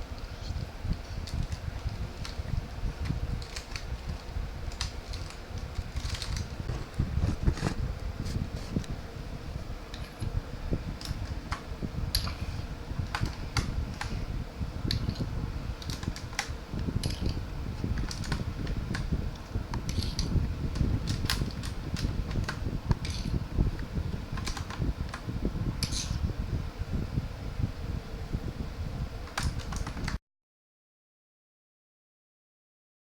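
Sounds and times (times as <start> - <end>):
steady low rumble: 0.0 - 30.2.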